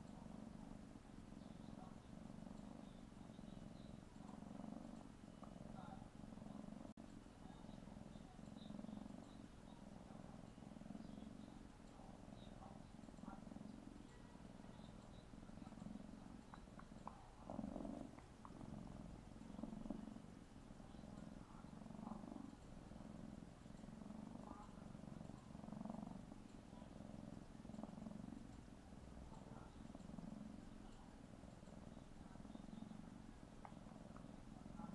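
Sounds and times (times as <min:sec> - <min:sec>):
kitten purring: 0:00.0 - 0:34.9.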